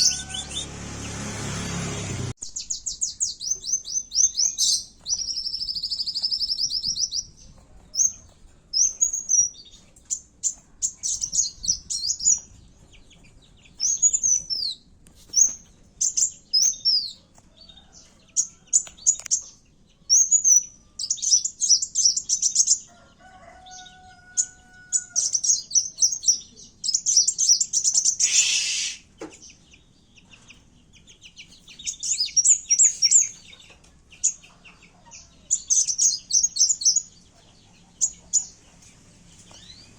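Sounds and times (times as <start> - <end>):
songbird chirps and trills: 2.4 - 39.9.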